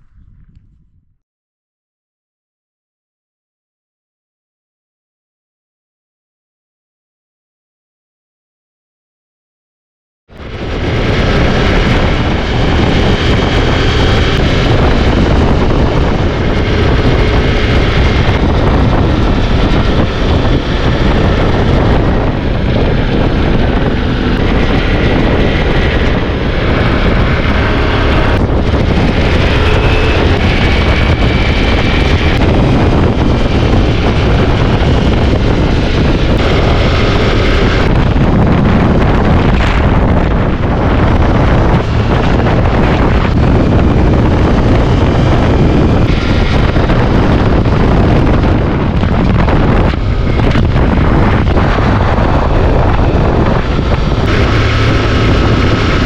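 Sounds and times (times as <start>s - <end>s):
wind rushing over microphone: 0.0s - 1.2s, 10.3s - 56.0s
motorcycle engine running: 10.3s - 56.0s.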